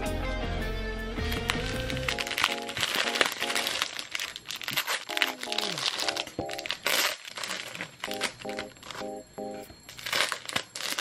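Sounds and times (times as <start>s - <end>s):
plastic bag crinkling: 1.3s - 11.0s.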